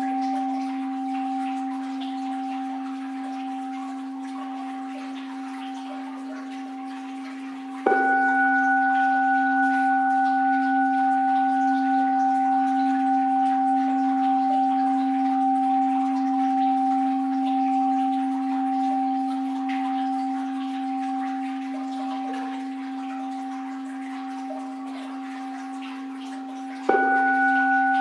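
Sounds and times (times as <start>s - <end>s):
bowl bell ringing: 0.0s - 28.0s.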